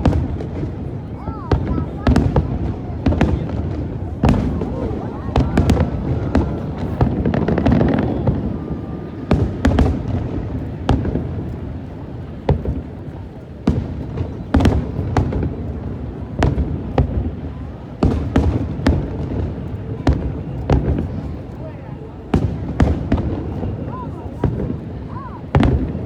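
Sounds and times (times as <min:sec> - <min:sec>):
fireworks bangs: 0:00.0 - 0:21.6, 0:22.3 - 0:26.0.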